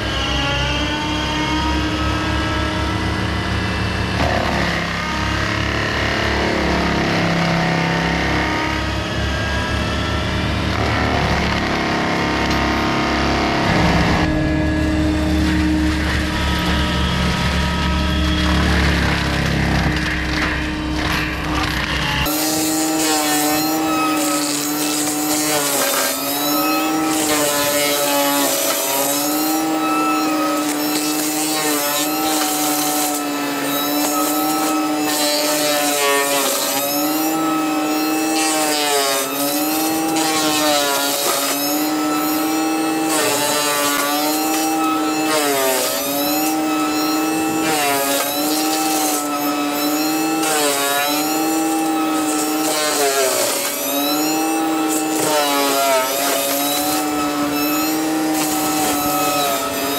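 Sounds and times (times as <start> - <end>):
forestry mulcher whining: 0.0 - 59.9.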